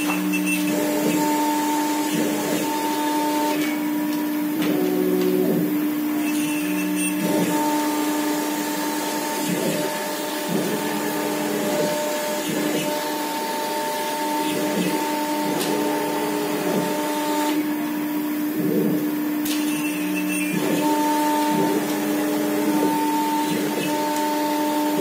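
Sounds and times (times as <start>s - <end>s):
router spindle whine: 0.0s - 25.0s.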